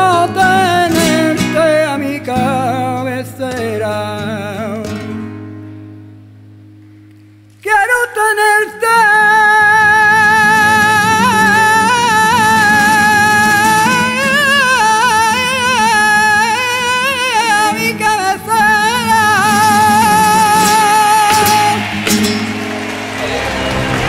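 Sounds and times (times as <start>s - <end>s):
man singing with vibrato: 0.0s - 5.4s, 7.6s - 22.6s
flamenco guitar strumming: 0.0s - 24.0s.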